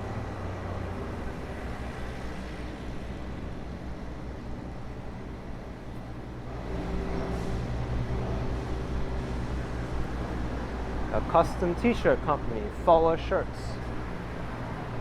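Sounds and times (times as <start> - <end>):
city street traffic: 0.0 - 15.0
vehicle engine humming: 0.0 - 15.0.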